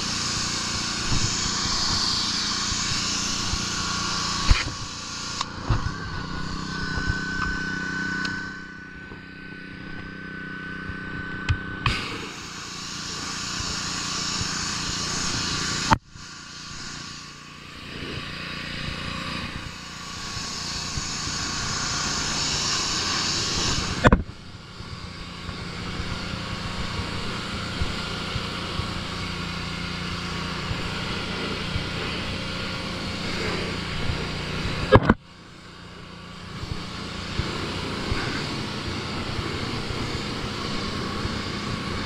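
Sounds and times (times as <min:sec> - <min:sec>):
water jet hissing on wood: 0:00.0 - 0:08.6, 0:11.9 - 0:24.1, 0:25.5 - 0:34.9, 0:35.5 - 0:42.0
pressure washer motor hum: 0:00.0 - 0:42.0.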